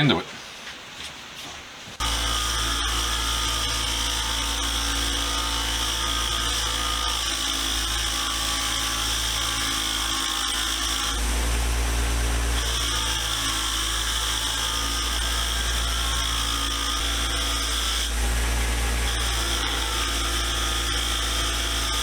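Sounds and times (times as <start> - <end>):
power wire wheel running: 2.0 - 22.0.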